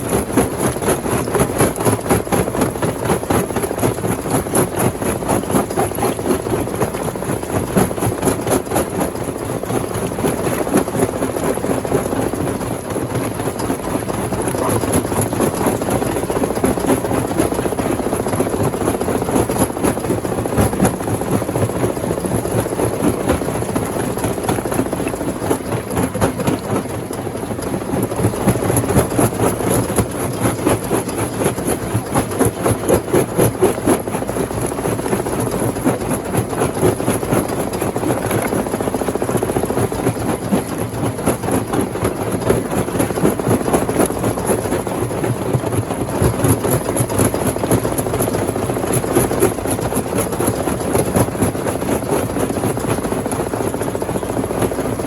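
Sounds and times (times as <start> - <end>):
rock crusher machine pulsing: 0.0 - 55.0.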